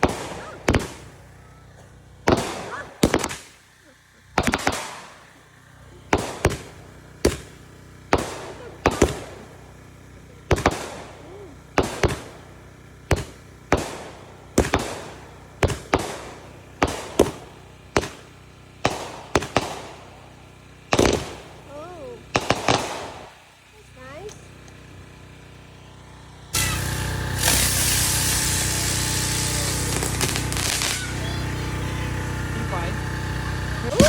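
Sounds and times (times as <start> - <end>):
fireworks sharp bangs: 0.0 - 25.6, 26.5 - 34.0.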